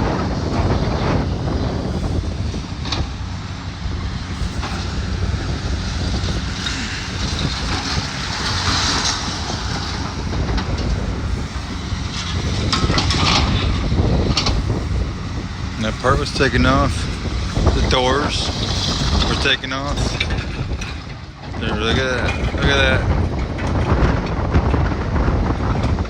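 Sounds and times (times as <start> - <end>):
demolition machinery rumble: 0.0 - 26.0
wind buffeting microphone: 0.0 - 26.0.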